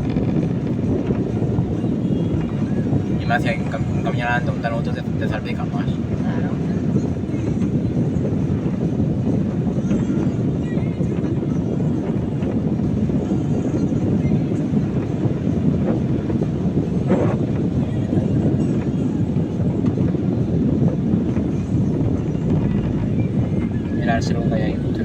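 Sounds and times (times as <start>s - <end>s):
tyre and engine rumble: 0.0s - 3.8s, 6.0s - 25.0s.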